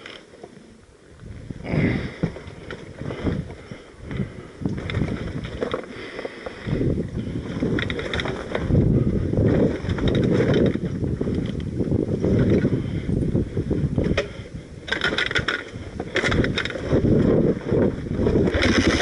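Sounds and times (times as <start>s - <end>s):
motorbike rumbling over rocks: 1.2s - 19.0s.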